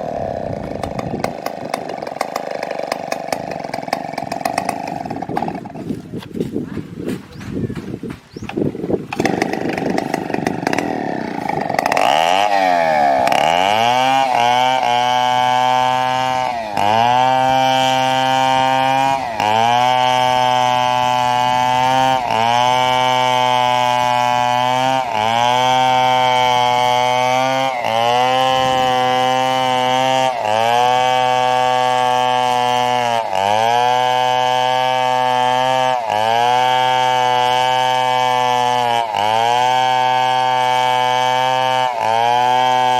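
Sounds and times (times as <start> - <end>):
chainsaw sawing wood: 0.0 - 42.9.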